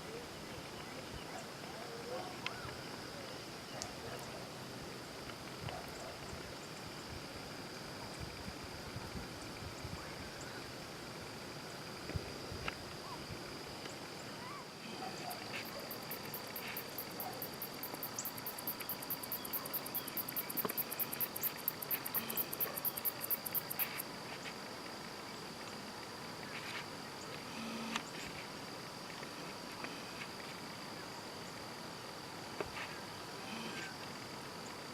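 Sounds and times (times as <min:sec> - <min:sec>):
insect drone: 0:00.0 - 0:34.9
rapid pulsed insect chirping: 0:00.1 - 0:34.9.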